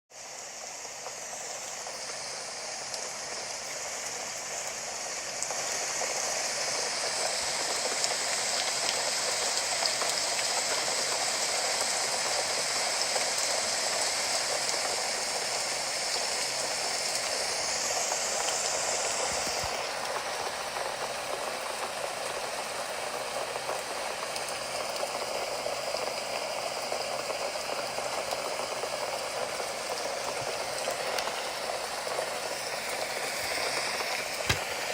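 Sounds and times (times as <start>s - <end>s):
steady rain hiss: 0.1s - 34.9s.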